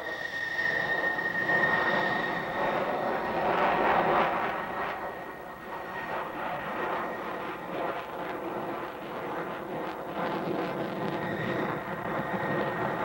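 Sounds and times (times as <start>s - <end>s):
jet engine rushing overhead: 0.0s - 13.0s.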